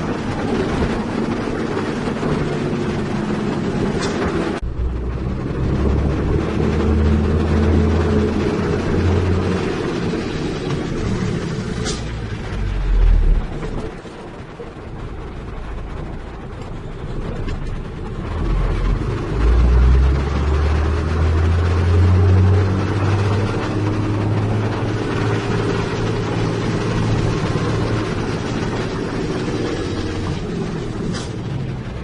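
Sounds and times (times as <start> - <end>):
heavy diesel engine revving: 0.0 - 32.0.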